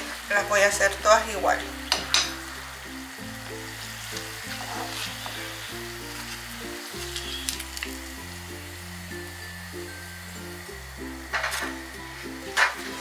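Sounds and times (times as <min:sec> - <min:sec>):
food sizzling in hot oil: 0:00.0 - 0:13.0
soft background music: 0:00.0 - 0:13.0.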